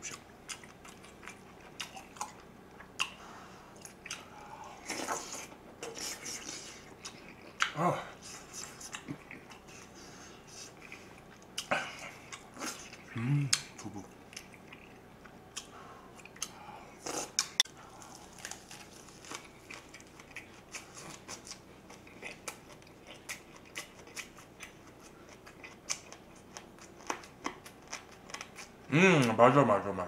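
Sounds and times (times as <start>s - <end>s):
crunchy chewing: 0.0s - 29.4s.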